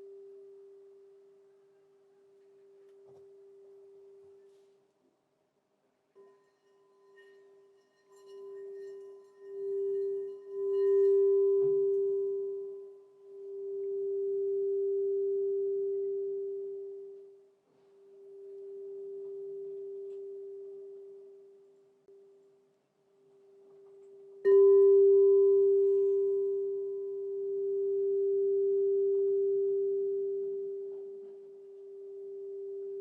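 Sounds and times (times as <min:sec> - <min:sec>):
singing bowl tone: 0:00.0 - 0:04.6, 0:06.2 - 0:22.7, 0:23.3 - 0:33.0.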